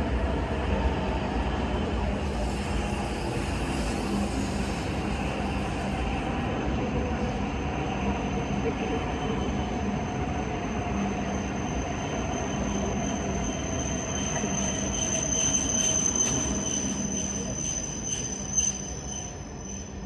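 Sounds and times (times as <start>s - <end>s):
high steady train squeal: 0.0s - 20.0s.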